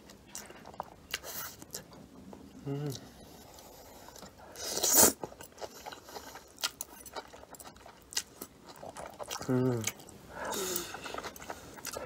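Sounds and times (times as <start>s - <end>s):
chewing with mouth clicks: 0.0s - 12.0s.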